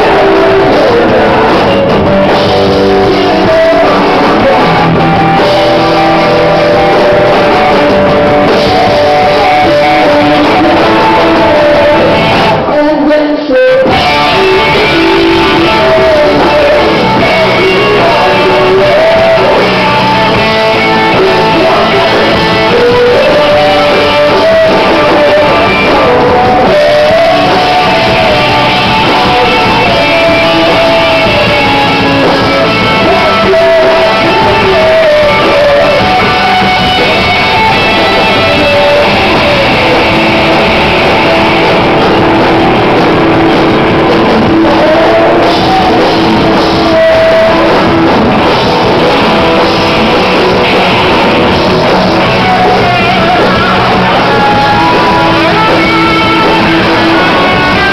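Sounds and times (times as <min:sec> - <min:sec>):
electric guitars: 0:00.0 - 0:57.9
person singing lead vocal: 0:00.0 - 0:57.9.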